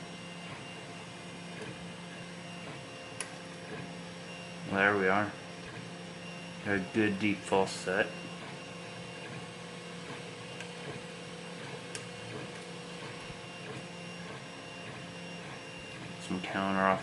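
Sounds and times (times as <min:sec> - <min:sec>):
stepper motors humming: 0:00.0 - 0:17.0.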